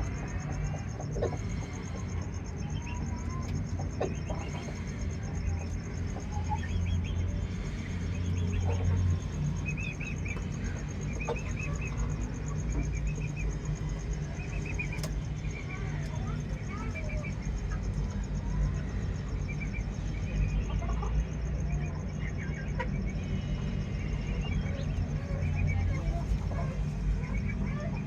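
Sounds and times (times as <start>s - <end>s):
chickens clucking: 0.0s - 28.0s
low hum: 0.0s - 28.0s.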